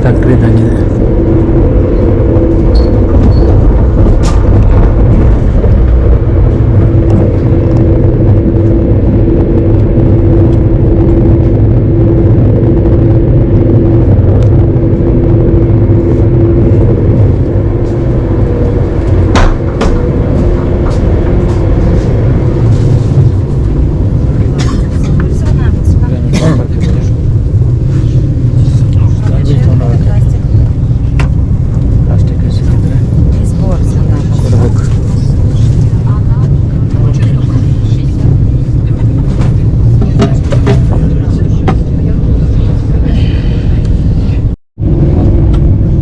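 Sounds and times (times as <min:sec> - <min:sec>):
steady hum: 0:00.0 - 0:46.0
train rumble inside carriage: 0:00.0 - 0:46.0.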